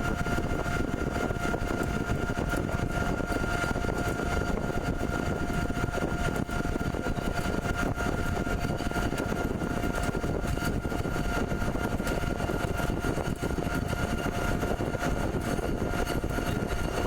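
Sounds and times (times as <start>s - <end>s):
pipe threading machine running: 0.0s - 17.0s.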